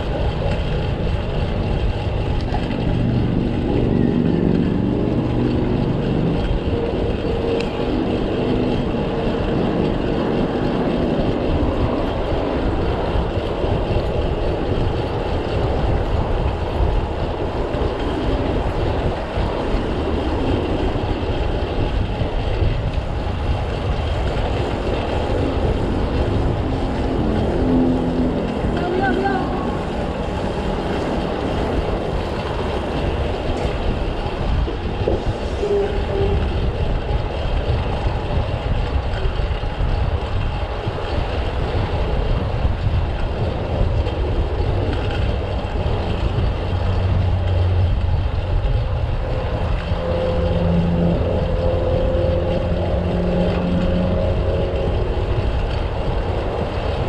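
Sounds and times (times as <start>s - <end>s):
street traffic rumble: 0.0s - 57.0s
vehicle engine hum: 0.0s - 57.0s
wind buffeting microphone: 0.0s - 57.0s.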